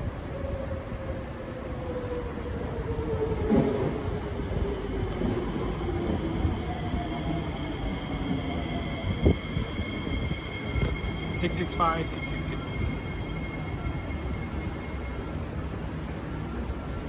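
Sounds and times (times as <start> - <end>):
metro train motor whine: 0.3 - 17.0
train wheels rumbling: 2.8 - 17.0.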